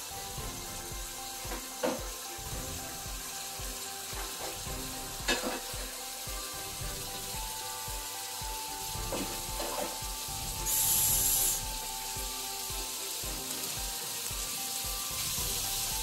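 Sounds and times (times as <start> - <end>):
pork sizzling in oil: 0.0 - 16.0.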